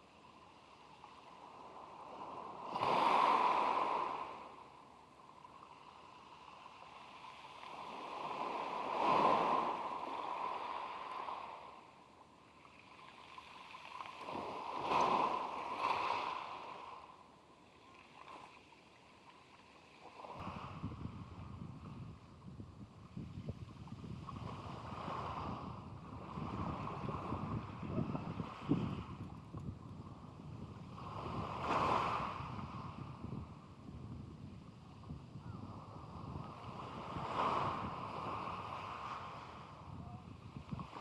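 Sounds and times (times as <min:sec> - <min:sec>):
sea waves washing on beach: 0:00.0 - 0:41.0.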